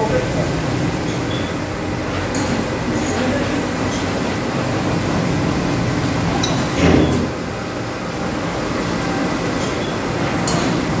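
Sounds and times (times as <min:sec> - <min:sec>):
washing machine mechanical rumble: 0:00.0 - 0:11.0.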